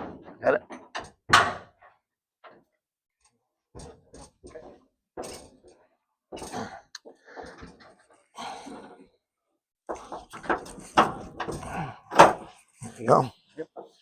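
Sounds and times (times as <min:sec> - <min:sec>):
metal knocks and clunks: 0:00.0 - 0:09.2, 0:09.9 - 0:12.8.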